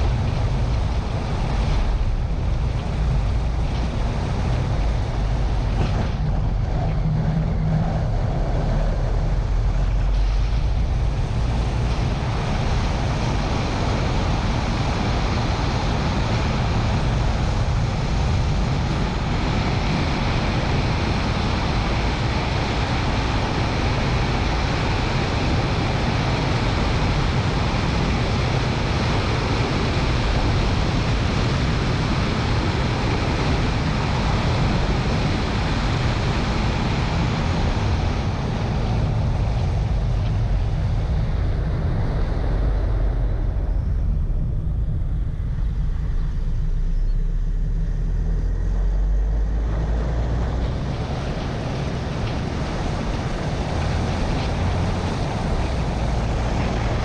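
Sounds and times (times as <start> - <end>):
car engine: 0.0 - 29.3, 33.5 - 57.0
wind noise on microphone: 0.0 - 57.0.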